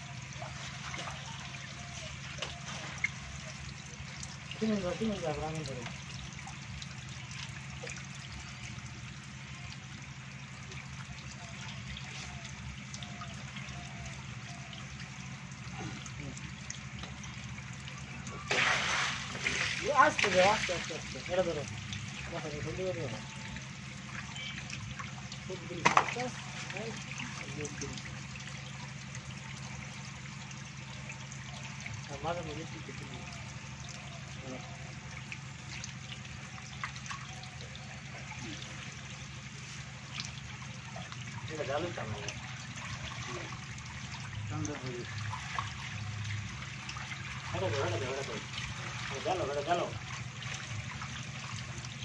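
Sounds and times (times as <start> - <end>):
water trickling and splashing: 0.0 - 52.0.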